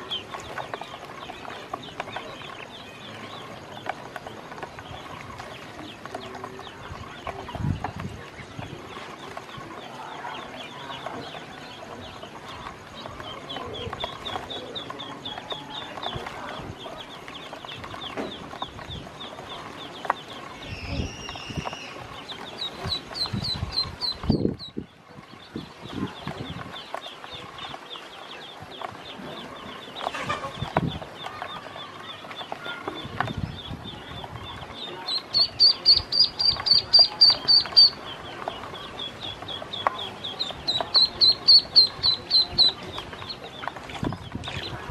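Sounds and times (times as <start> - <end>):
bills pecking plastic basin: 0.0 - 24.4, 25.3 - 44.9
ducklings peeping: 0.0 - 44.9.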